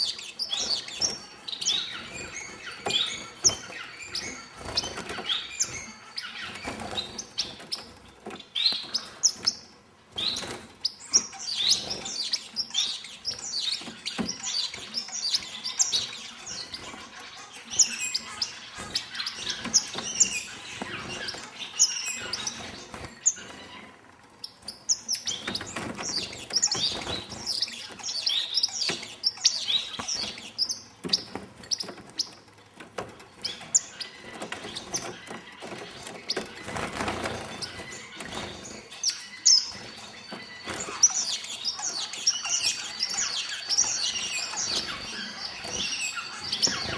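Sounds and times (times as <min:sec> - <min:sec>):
finches chirping: 0:00.0 - 0:46.9.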